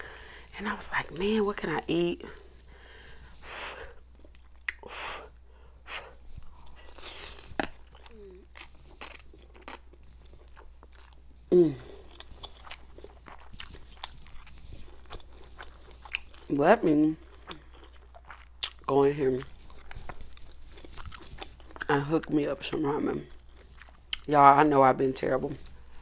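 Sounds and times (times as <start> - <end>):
wet chewing: 0.0 - 24.4.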